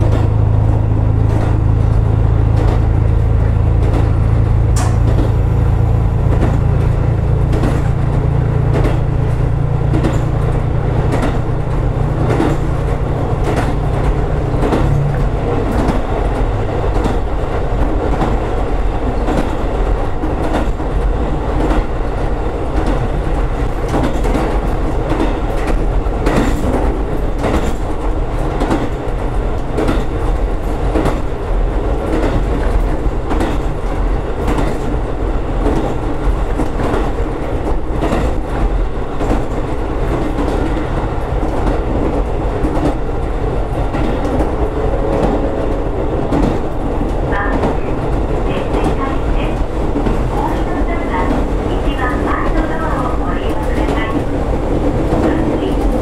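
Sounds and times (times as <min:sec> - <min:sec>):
train engine and wheels rumbling: 0:00.0 - 0:56.0
wheels clacking over rail joints: 0:00.0 - 0:56.0.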